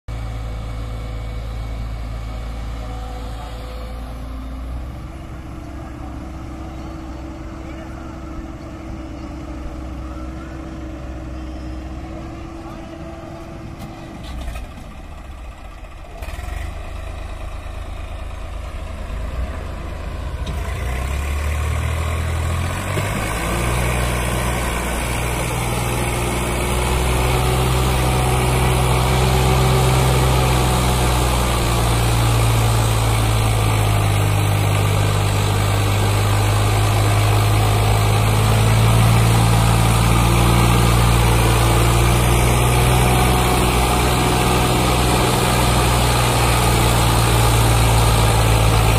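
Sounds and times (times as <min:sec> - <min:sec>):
diesel tractor engine pulling hard: 0:00.1 - 0:48.9.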